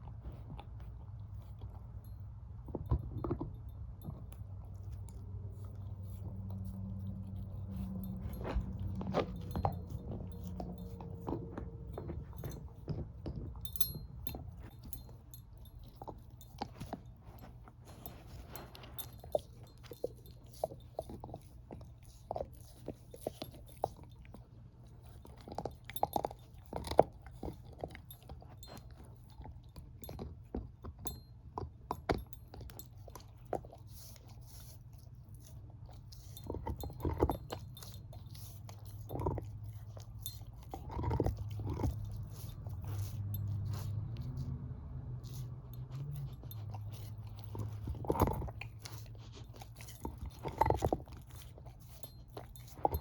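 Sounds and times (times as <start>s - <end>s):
dog chewing a bone: 0.0s - 53.0s.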